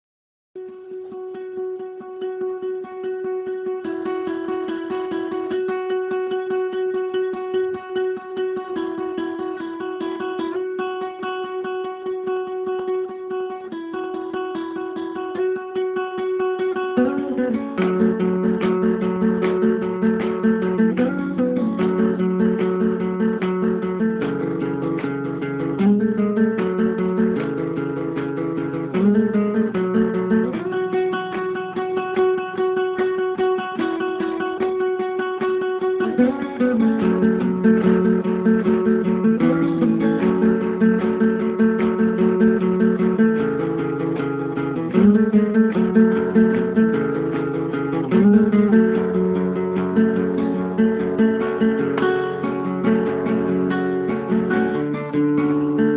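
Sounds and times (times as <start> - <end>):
acoustic guitar strumming chords: 0.6 - 55.9.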